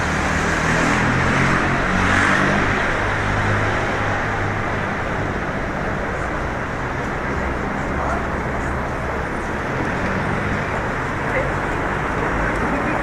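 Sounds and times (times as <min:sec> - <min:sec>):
rush of traffic: 0:00.0 - 0:13.0
vehicle engines humming: 0:00.0 - 0:13.0.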